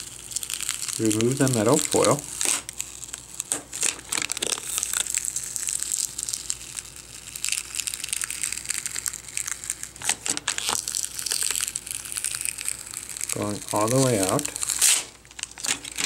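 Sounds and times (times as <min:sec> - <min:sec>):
foil tape crinkling: 0:00.0 - 0:16.0
sharp crackles: 0:00.0 - 0:16.0.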